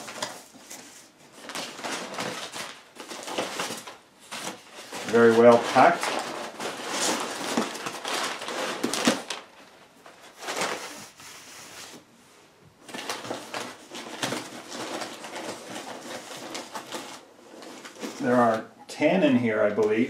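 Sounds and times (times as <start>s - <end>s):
packing material rustling: 0.0s - 12.2s, 12.8s - 18.7s.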